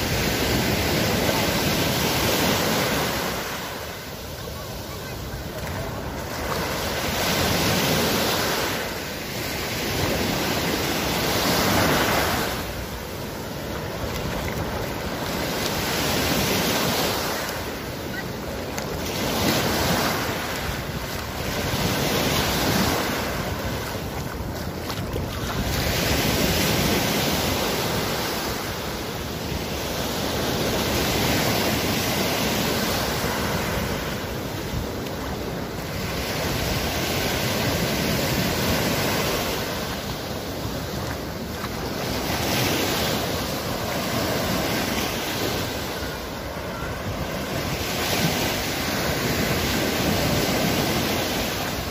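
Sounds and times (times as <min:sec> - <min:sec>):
small waves breaking on sand: 0:00.0 - 0:51.9.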